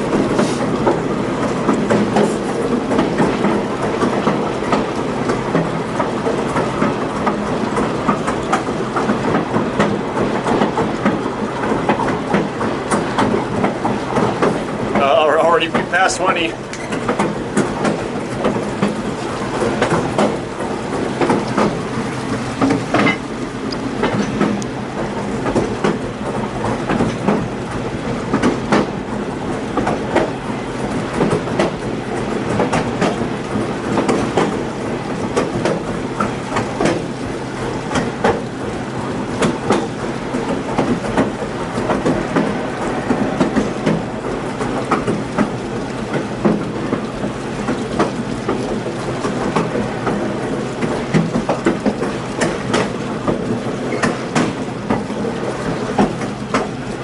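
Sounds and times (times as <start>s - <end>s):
train wheels rumbling on rail: 0.0s - 57.0s
wheels clacking over rail joints: 0.0s - 57.0s.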